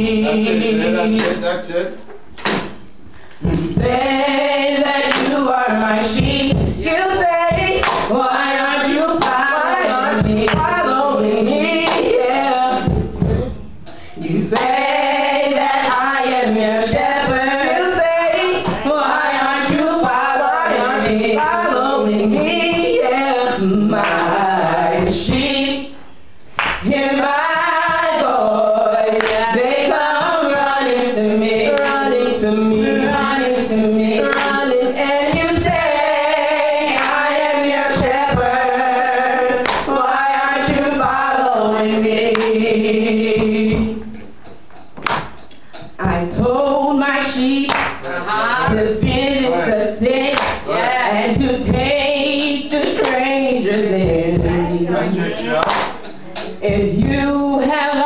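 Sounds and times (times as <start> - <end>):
woman and man singing duet: 0.0 - 1.5, 3.4 - 26.0, 26.8 - 44.2, 45.8 - 58.0
drums: 0.0 - 58.0.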